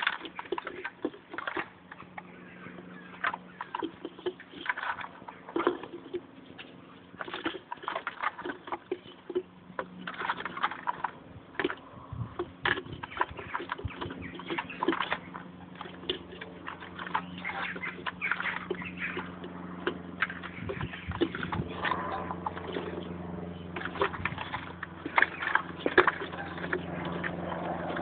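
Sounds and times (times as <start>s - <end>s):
birds twittering and chirping: 0.0s - 28.0s
faint low hum: 0.0s - 28.0s.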